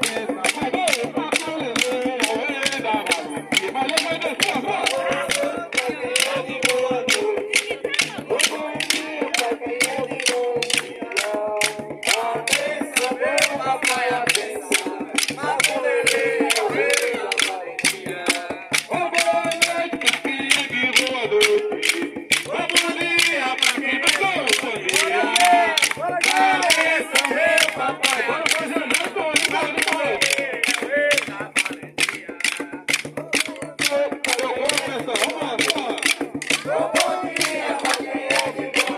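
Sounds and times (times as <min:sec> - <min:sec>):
group singing call and response: 0:00.0 - 0:38.9
pulsing low instrument: 0:00.0 - 0:38.9
rhythmic hand clapping: 0:00.0 - 0:38.9.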